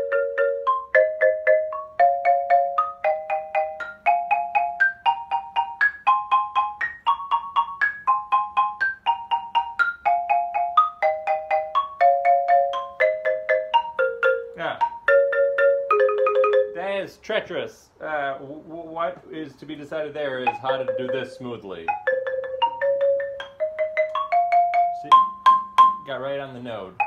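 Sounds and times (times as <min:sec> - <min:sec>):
xylophone scale: 0:00.0 - 0:17.0, 0:20.4 - 0:26.3.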